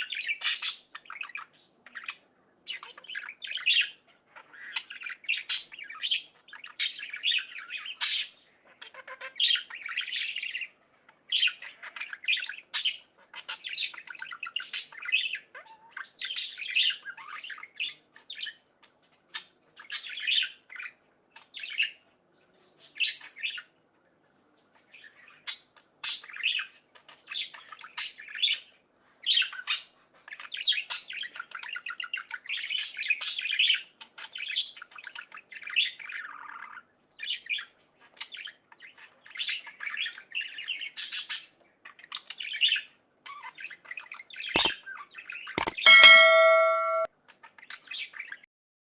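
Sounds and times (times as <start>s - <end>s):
budgerigars chirping and squawking: 0.0s - 22.0s, 22.8s - 23.7s, 24.7s - 46.7s.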